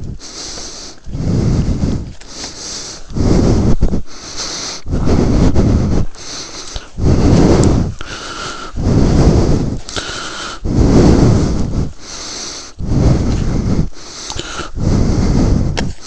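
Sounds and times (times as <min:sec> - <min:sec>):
person breathing heavily: 0:00.0 - 0:16.0.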